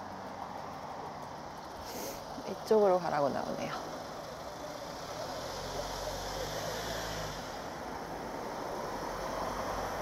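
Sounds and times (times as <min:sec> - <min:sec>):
outdoor noise: 0:00.0 - 0:10.0
vehicle engine humming: 0:00.0 - 0:10.0.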